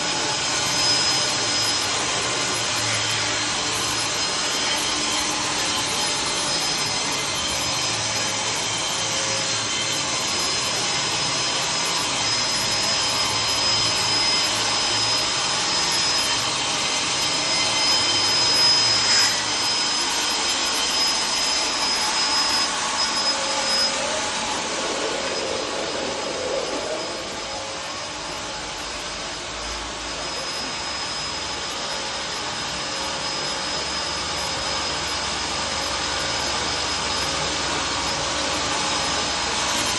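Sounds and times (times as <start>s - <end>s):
high whine: 0.0s - 39.9s
sawmill running: 0.0s - 39.9s.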